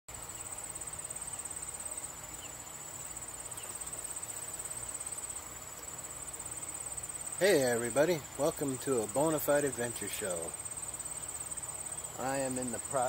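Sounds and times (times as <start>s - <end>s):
insects trilling: 0.1s - 13.0s.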